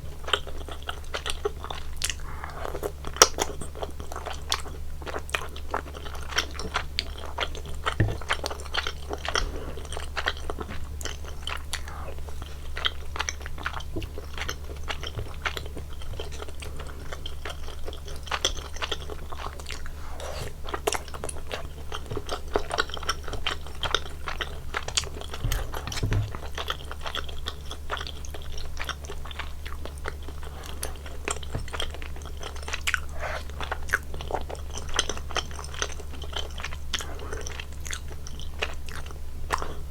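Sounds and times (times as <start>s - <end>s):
wet chewing mouth sounds: 0.0s - 39.9s.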